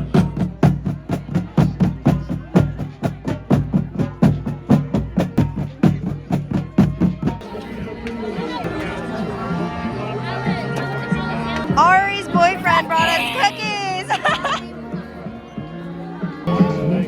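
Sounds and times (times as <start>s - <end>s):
drumline cadence: 0.0s - 17.0s.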